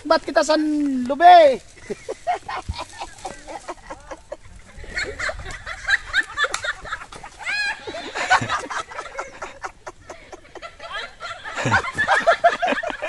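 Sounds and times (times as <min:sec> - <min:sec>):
people laughing: 0:01.8 - 0:13.0.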